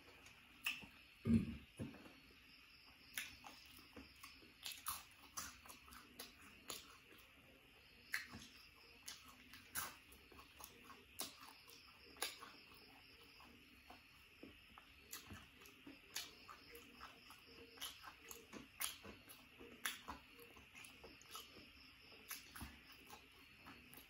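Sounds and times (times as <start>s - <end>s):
chewing clicks: 0.2s - 1.0s, 3.1s - 7.4s, 8.0s - 24.0s.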